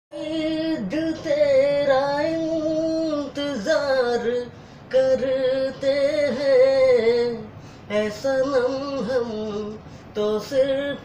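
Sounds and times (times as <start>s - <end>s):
man singing unaccompanied: 0.1s - 11.0s.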